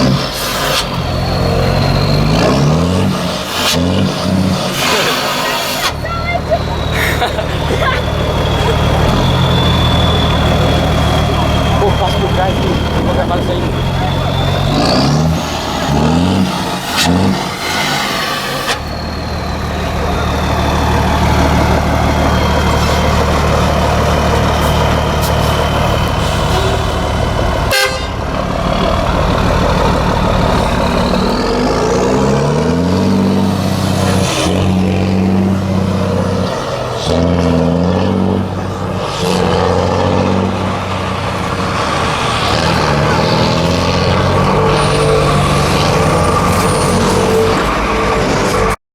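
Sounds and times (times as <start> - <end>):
truck diesel engine rumbling: 0.0 - 48.8.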